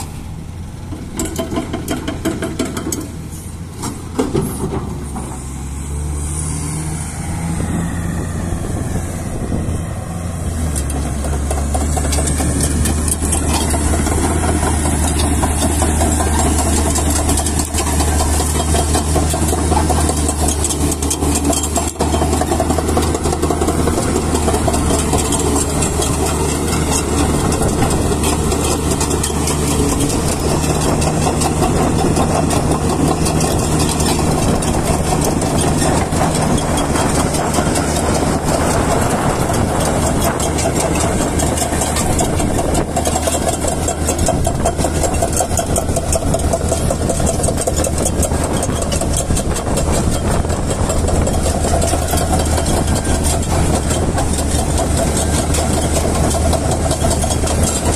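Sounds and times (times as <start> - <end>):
excavator diesel engine running: 0.0 - 57.9
steel tracks clattering on gravel: 10.3 - 57.9.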